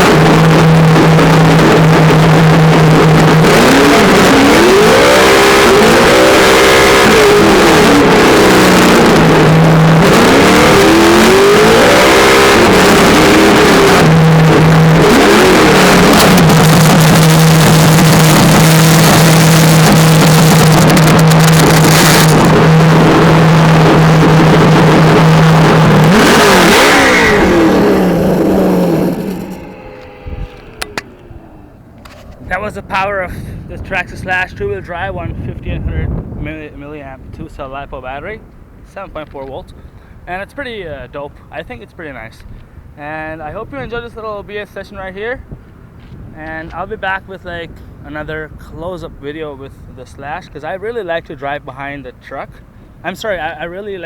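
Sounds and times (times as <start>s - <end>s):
simulated engine sound from speaker: 0.0s - 39.7s, 46.4s - 54.0s.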